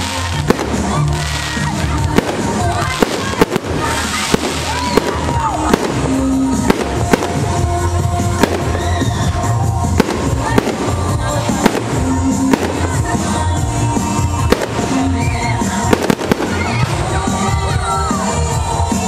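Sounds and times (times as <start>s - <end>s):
fireworks bursting: 0.0s - 19.0s
loud bass-heavy music: 0.0s - 19.0s.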